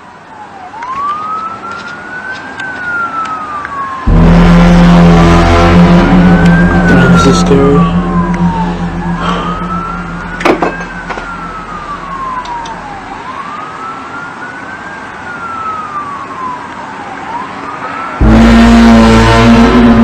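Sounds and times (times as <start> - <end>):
siren wailing: 0.3 - 20.0.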